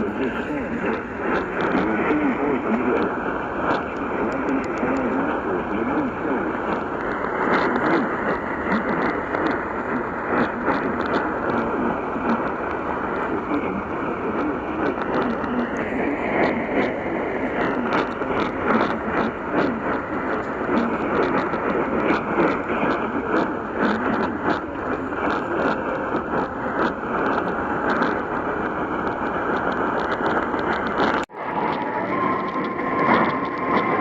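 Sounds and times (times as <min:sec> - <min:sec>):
radio static hiss and crackles: 0:00.0 - 0:34.0.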